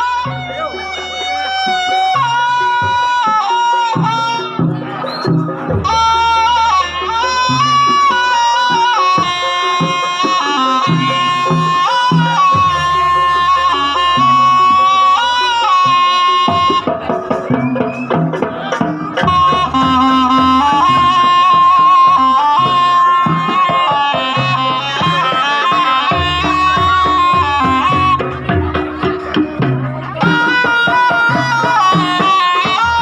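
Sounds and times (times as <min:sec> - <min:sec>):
hand drum patterns: 0:00.0 - 0:33.0
shrill reed melody: 0:00.0 - 0:33.0.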